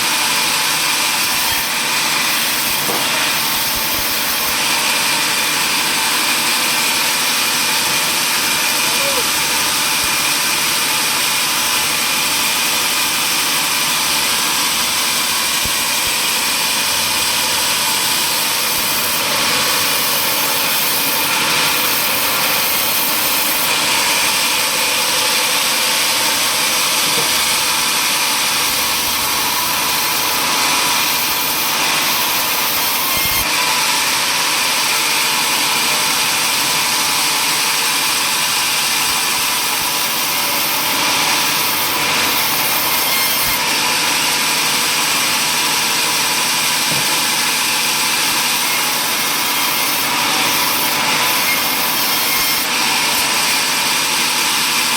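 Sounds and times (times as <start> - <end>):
power saw cutting wood: 0.0 - 54.9.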